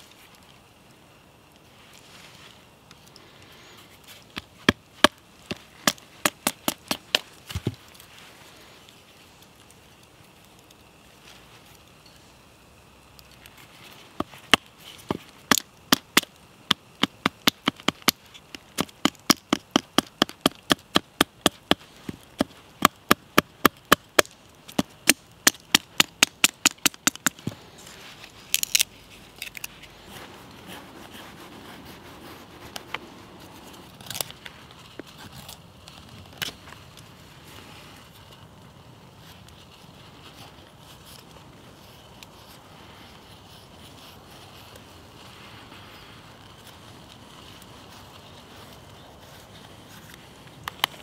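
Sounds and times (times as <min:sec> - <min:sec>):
rustle of wood being handled: 0:00.0 - 0:51.0.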